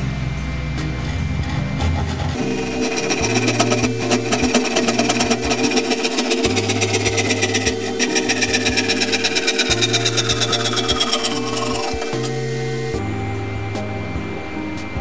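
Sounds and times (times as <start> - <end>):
steady low tones: 0.0 - 15.0
hand saw cutting wood: 0.8 - 13.0.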